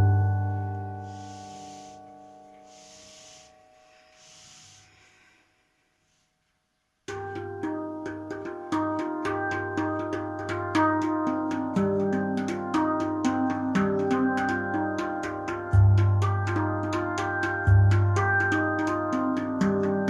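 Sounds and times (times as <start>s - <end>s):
handpan notes ringing: 0.0s - 4.4s, 7.1s - 20.0s.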